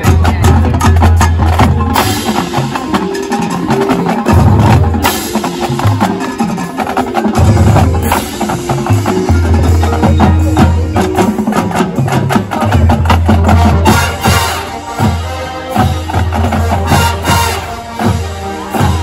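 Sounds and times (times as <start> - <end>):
marching band playing: 0.0 - 19.0
percussion strikes: 0.0 - 19.0.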